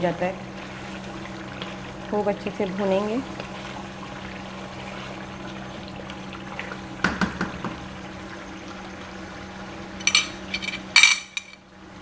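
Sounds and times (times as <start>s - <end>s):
meat sizzling and bubbling in wok: 0.2s - 10.5s.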